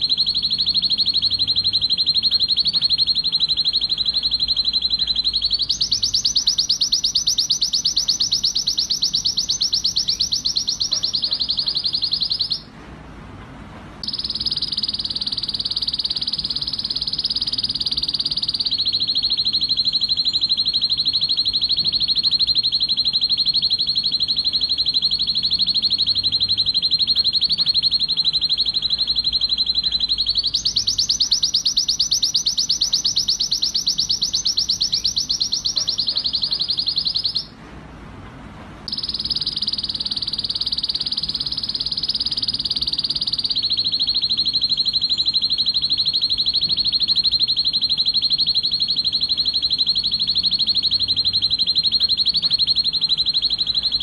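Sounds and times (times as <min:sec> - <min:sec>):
canary singing trills: 0:00.0 - 0:12.7, 0:14.0 - 0:37.6, 0:38.9 - 0:54.0.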